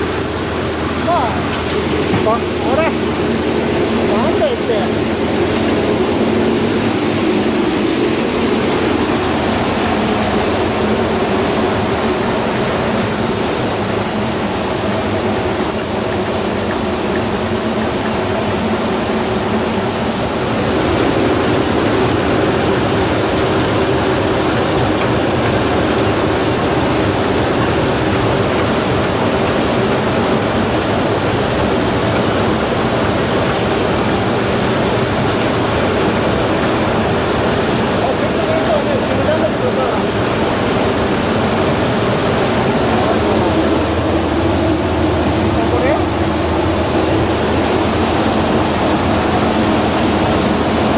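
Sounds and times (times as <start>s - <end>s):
rice huller clunking: 0.0s - 50.9s.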